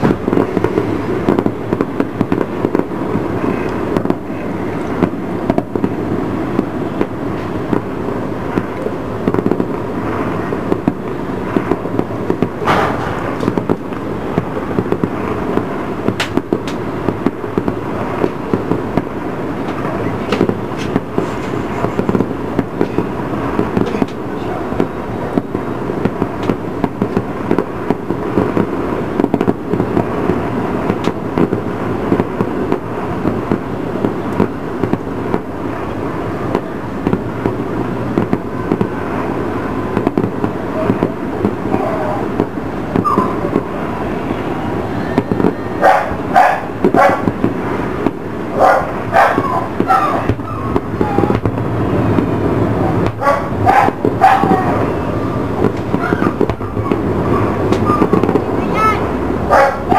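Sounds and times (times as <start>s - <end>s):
distant fireworks bursting: 0.0s - 59.9s
sharp firework cracks: 0.0s - 59.9s.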